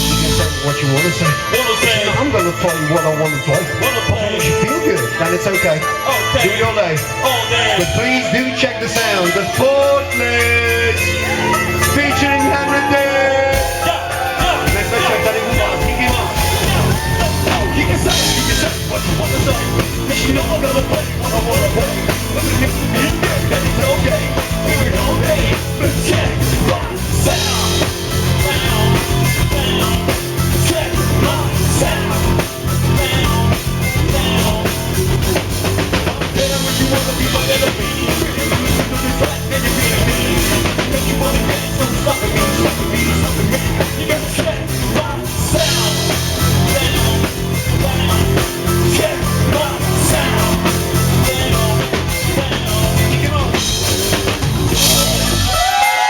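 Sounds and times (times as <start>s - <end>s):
drum kit beat: 0.0s - 3.1s, 6.2s - 56.0s
bass guitar: 0.0s - 55.9s
rock band playing live: 0.0s - 56.0s.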